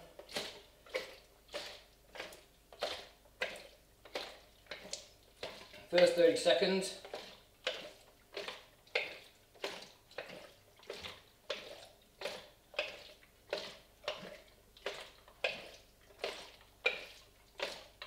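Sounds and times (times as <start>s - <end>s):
liquid sloshing in plastic tank: 0.0s - 18.0s.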